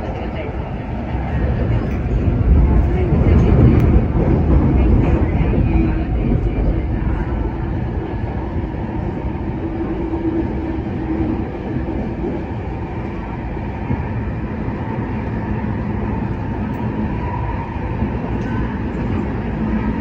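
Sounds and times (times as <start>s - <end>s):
train running rumble inside carriage: 0.0s - 20.0s.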